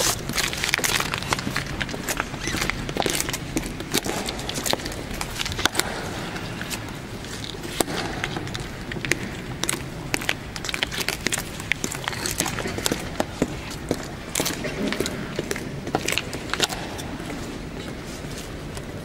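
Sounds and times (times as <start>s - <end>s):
low room noise: 0.0s - 19.0s.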